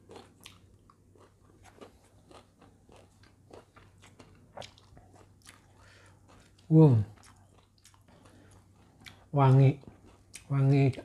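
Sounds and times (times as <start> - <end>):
close-up chewing: 0.0 - 11.0.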